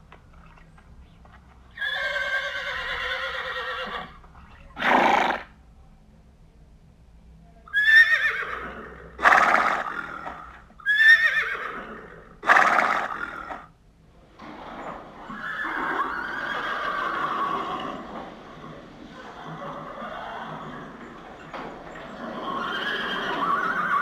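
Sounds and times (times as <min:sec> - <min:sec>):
horse neighing: 0:01.8 - 0:05.5, 0:07.7 - 0:13.7, 0:14.4 - 0:24.0.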